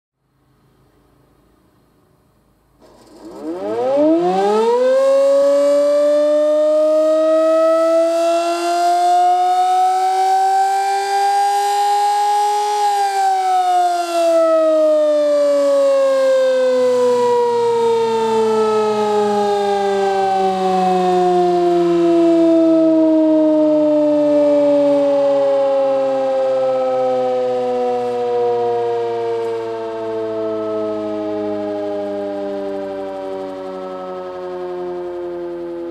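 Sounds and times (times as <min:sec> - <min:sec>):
warning siren wailing: 0:02.8 - 0:35.9.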